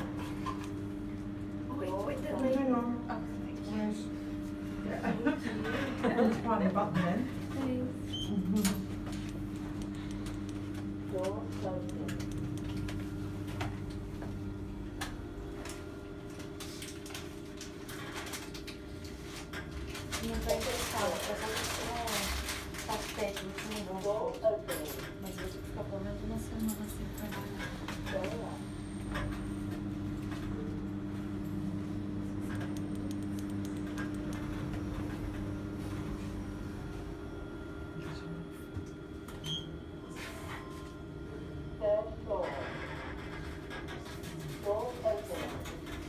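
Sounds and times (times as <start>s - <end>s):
elevator hum: 0.0s - 16.8s, 25.1s - 46.0s.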